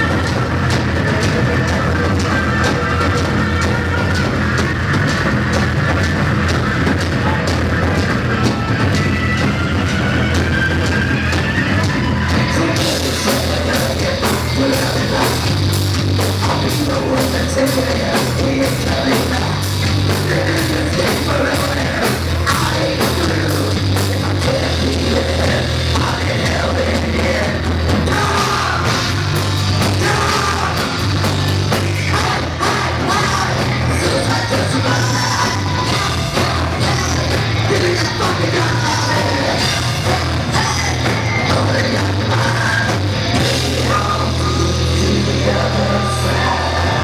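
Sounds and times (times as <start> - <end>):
heavy rock band playing: 0.0 - 47.0
person singing: 6.9 - 47.0.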